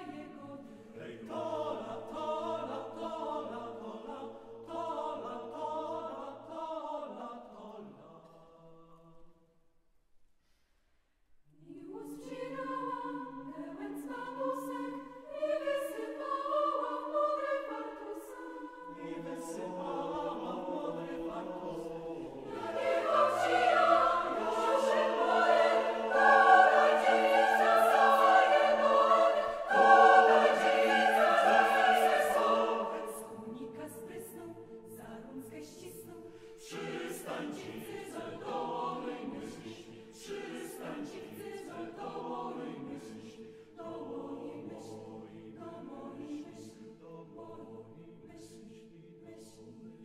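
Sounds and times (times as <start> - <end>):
choir singing a cappella: 0.0 - 9.4, 11.5 - 50.0.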